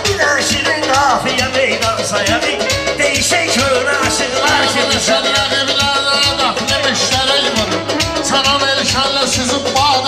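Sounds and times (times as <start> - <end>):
backing track with steady beat: 0.0 - 10.0.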